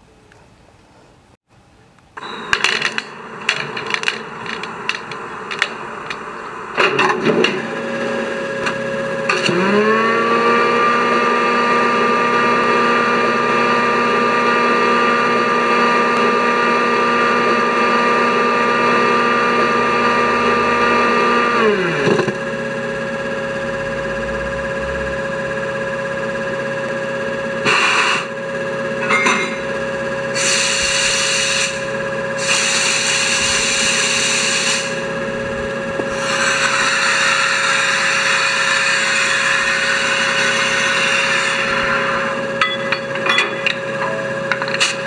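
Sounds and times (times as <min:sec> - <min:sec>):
steady electric hum: 0:01.1 - 0:45.0
rising whine: 0:02.2 - 0:45.0.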